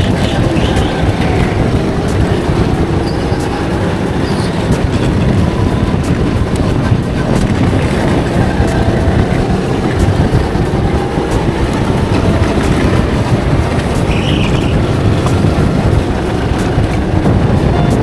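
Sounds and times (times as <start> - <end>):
go-kart engine rumble: 0.0 - 18.0
wind buffeting microphone: 0.0 - 18.0.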